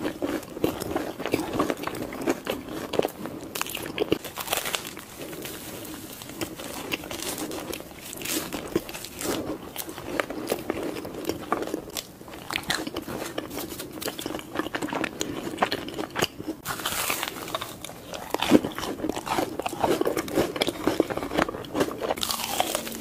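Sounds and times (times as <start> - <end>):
crunchy batter crackling: 0.0 - 23.0
wet chewing: 0.0 - 23.0.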